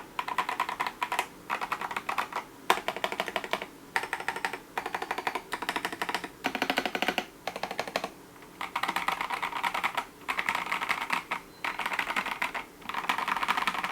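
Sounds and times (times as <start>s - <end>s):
mechanical keyboard typing: 0.0s - 13.9s.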